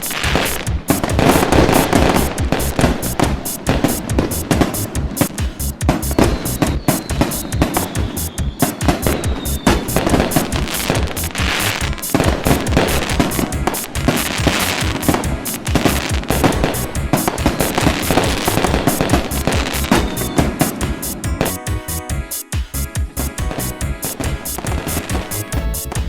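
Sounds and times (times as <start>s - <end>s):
fireworks bursting and crackling: 0.0s - 26.0s
music with a steady beat: 0.0s - 26.0s.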